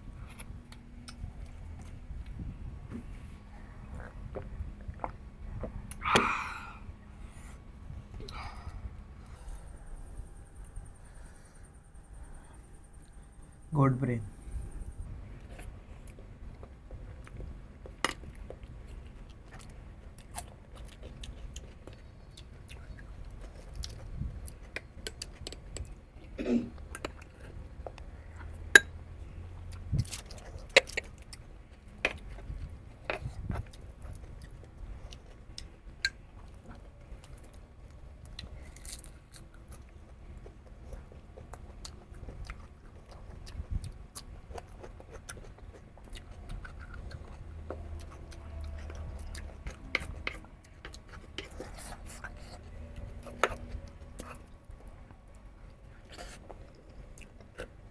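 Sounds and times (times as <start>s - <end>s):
person chewing meat: 0.0s - 9.3s, 15.2s - 57.9s.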